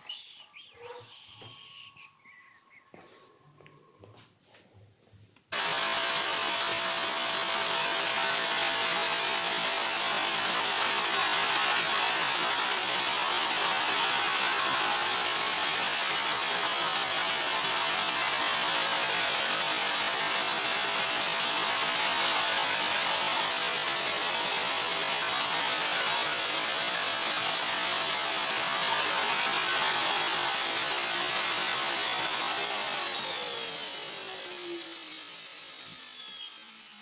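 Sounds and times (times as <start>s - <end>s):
vacuum cleaner running: 5.5s - 37.0s.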